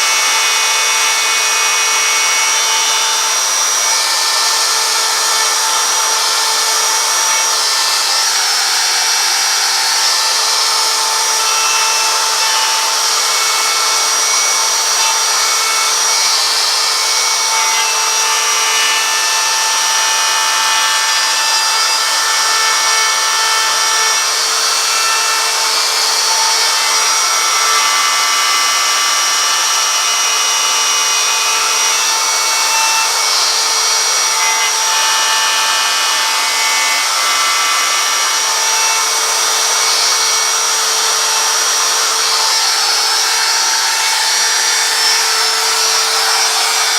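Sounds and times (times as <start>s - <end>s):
power tool whining on wood: 0.0s - 46.9s.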